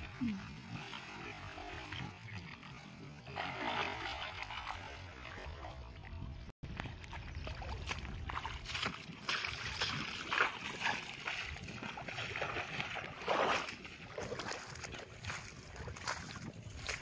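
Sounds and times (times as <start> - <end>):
footsteps splashing through water: 0.0 - 17.0.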